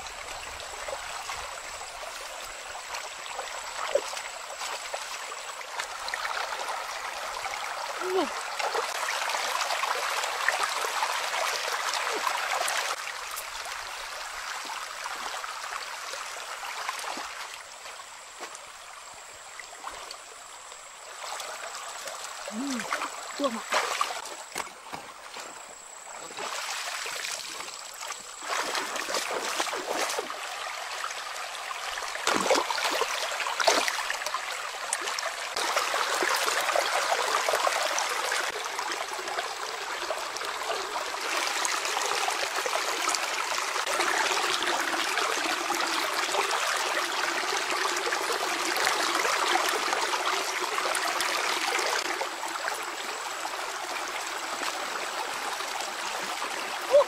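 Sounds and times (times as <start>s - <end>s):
water splashes: 0.0s - 18.8s, 19.6s - 57.0s
stream water running over stones: 0.0s - 57.0s.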